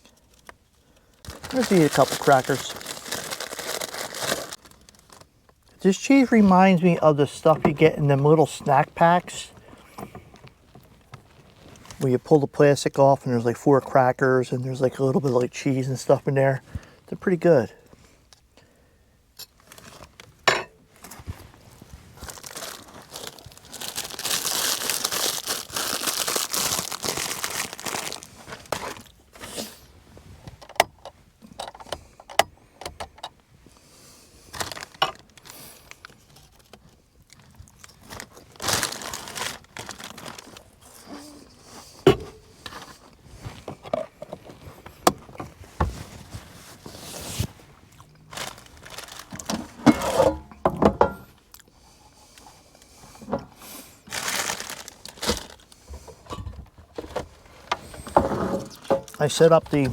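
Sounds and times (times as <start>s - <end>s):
rustling and crinkling: 0.0s - 12.2s, 19.5s - 32.1s, 33.5s - 59.9s.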